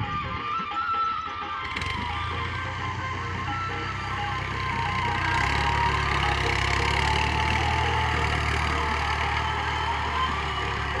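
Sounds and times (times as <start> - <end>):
tractor diesel engine idling: 1.6 - 11.0.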